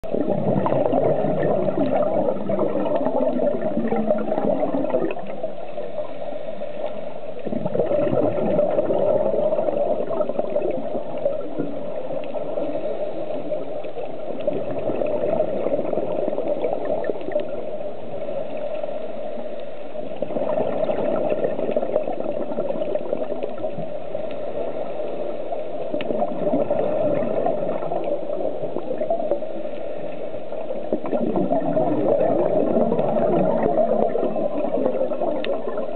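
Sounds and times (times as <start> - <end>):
bubbles gurgling: 0.0 - 6.2, 7.3 - 35.9.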